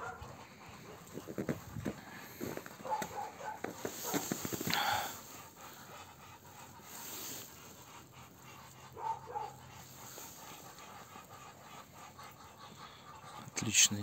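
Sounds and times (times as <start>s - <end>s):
ducks hissing: 0.0s - 14.0s.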